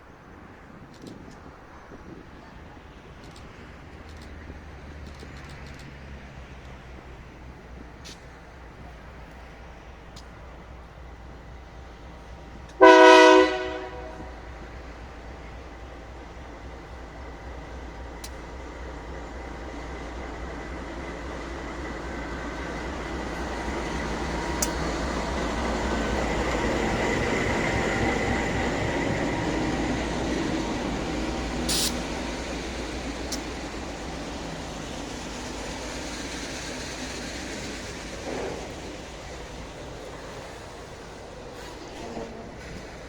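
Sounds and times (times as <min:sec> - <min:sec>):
freight train wheels on rail: 0:00.0 - 0:43.0.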